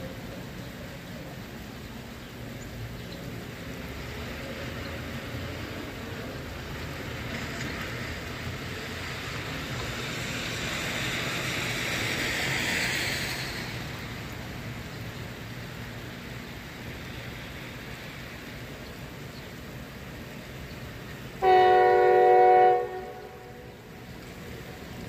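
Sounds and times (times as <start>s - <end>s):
traffic rumble: 0.0s - 25.0s
tyre hiss on wet road: 0.1s - 25.0s.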